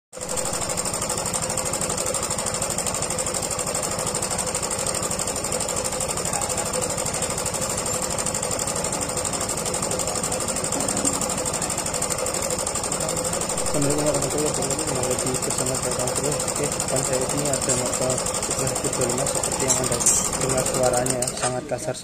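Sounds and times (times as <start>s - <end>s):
motorcycle engine with rough rattle: 0.1s - 22.0s.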